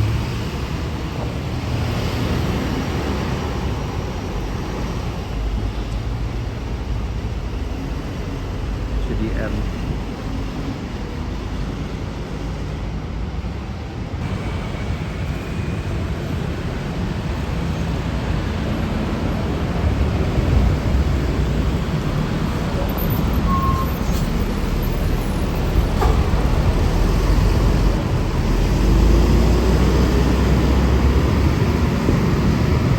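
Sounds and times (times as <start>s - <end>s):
traffic rumble: 0.0s - 32.9s.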